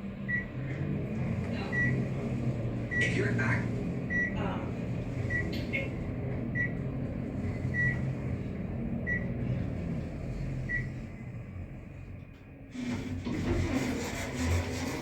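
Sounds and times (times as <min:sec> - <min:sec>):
elevator hum and rumble: 0:00.0 - 0:15.0.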